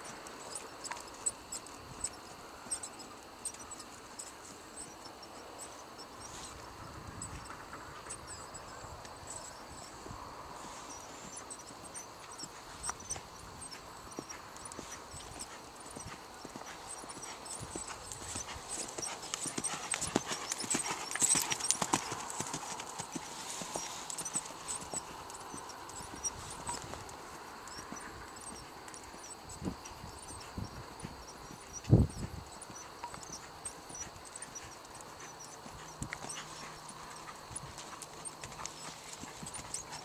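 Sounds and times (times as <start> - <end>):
horse hoofbeats on dirt: 0.0 - 40.0.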